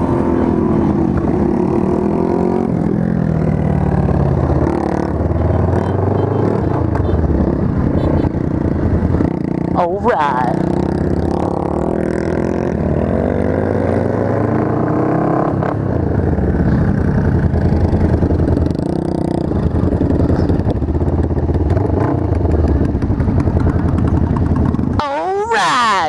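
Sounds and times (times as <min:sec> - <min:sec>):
motorcycle engine: 0:00.0 - 0:26.0
other motorcycles: 0:00.0 - 0:26.0.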